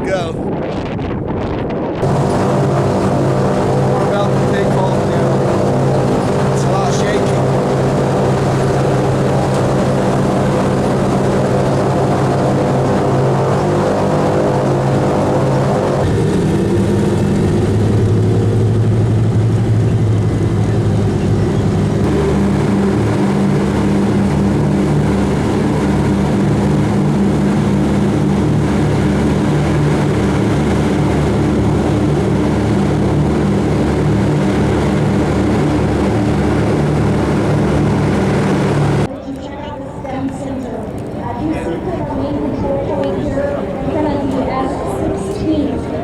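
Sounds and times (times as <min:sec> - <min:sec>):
propeller drone inside cabin: 0:01.9 - 0:46.0.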